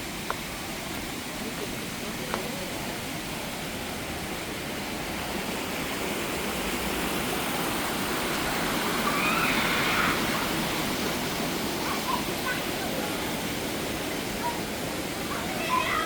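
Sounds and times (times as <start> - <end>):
waterfall rushing and splashing: 0.0 - 16.0.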